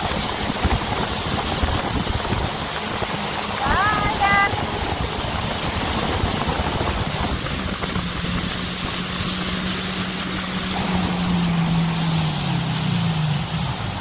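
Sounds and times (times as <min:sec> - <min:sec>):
boat engine humming: 0:00.0 - 0:14.0
water washing: 0:00.0 - 0:14.0
wind noise: 0:00.0 - 0:14.0.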